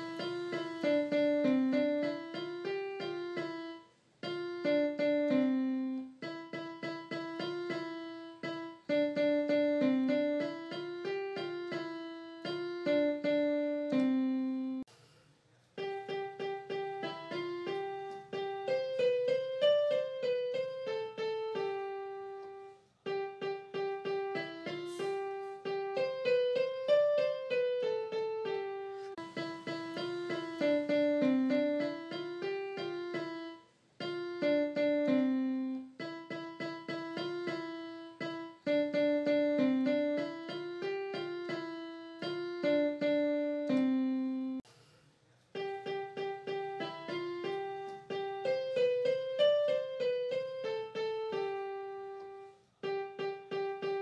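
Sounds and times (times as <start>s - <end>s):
piano melody: 0.0s - 14.9s, 15.8s - 44.7s, 45.6s - 54.0s.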